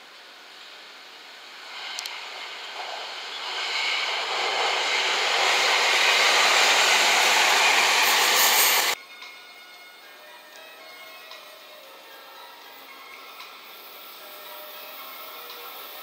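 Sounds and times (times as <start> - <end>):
train rushing on rails: 0.0 - 9.0, 11.3 - 16.0.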